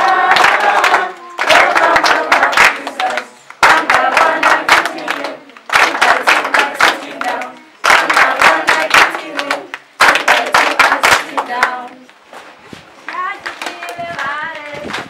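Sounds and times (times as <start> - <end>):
hands clapping in time: 0.0 - 12.1
women and children singing: 0.0 - 12.2, 13.1 - 15.0.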